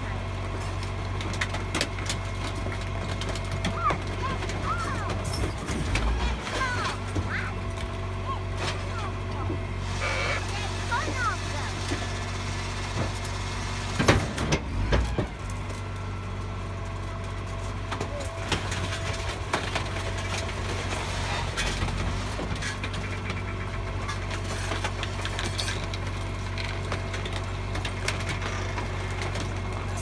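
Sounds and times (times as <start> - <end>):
garbage truck engine running: 0.0 - 30.0
rubbish clattering and crunching: 0.0 - 30.0.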